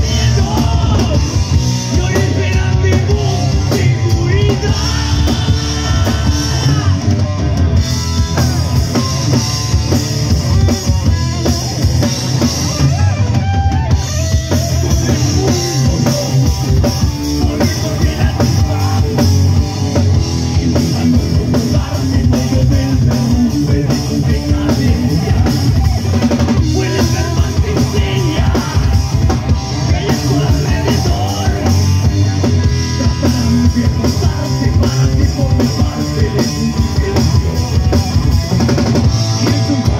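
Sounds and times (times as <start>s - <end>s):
lead singer singing: 0.0s - 9.5s, 12.6s - 39.9s
drum kit: 0.0s - 39.9s
electric bass: 0.0s - 39.9s
electric guitar: 0.0s - 39.9s.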